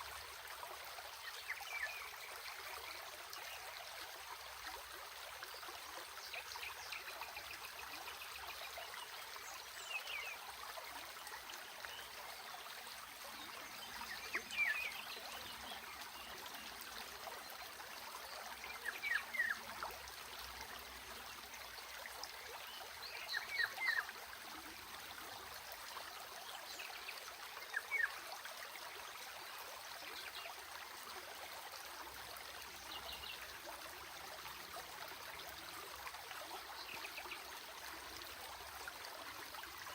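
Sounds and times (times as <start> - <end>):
stream running and trickling: 0.0 - 39.9.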